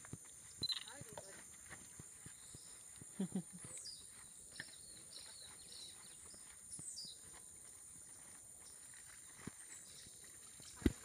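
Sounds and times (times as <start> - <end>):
birds calling: 0.3 - 11.0.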